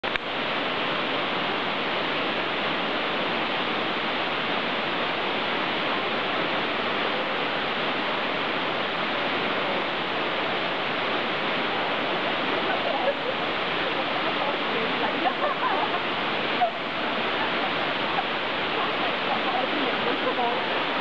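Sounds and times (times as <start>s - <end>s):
waterfall rushing onto pool: 0.0s - 21.0s.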